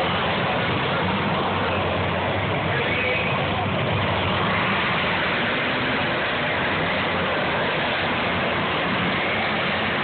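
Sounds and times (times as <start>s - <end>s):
car engines running: 0.0s - 10.0s.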